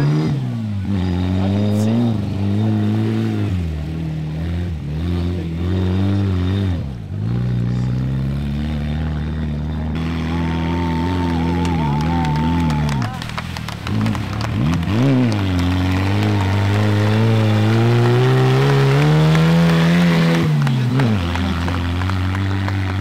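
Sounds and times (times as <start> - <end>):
tractor engine labouring: 0.0 - 23.0.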